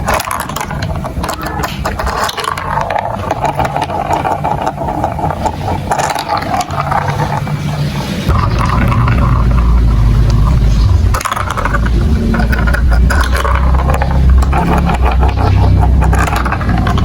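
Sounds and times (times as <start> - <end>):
marbles rolling on plastic run: 0.0 - 17.0.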